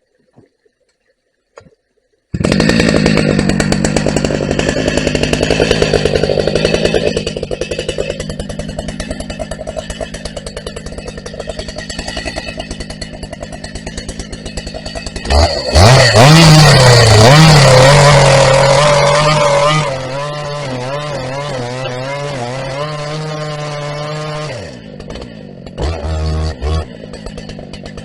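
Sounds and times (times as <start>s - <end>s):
chainsaw idling and revving: 2.4s - 28.0s.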